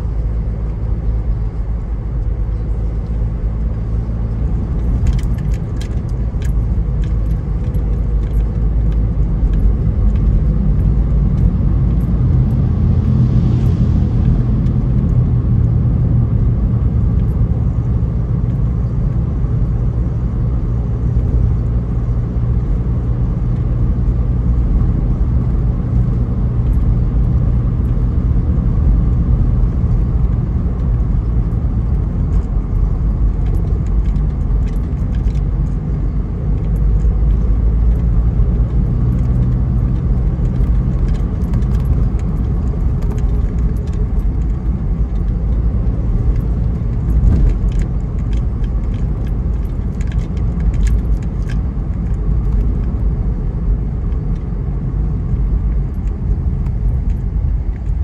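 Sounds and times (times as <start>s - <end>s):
car engine and tyre rumble: 0.0s - 58.0s
light rattles and clicks: 1.6s - 19.8s, 22.6s - 58.0s.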